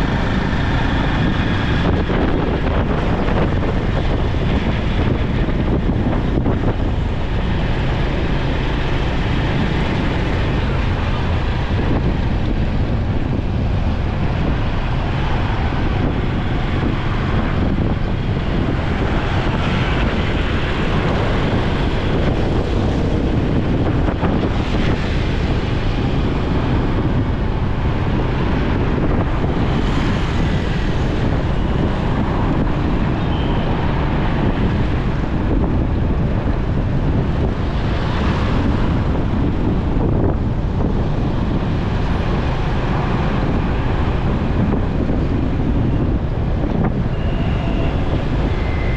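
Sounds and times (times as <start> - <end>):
road and traffic noise: 0.0 - 48.9
wind rush on microphone: 0.0 - 48.9.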